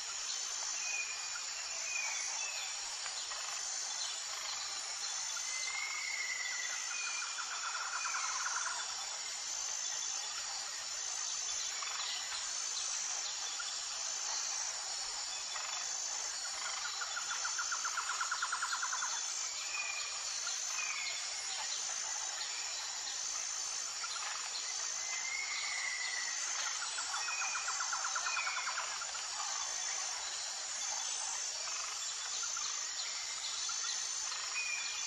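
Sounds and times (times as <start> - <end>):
pulsing insect trill: 0.0 - 35.0.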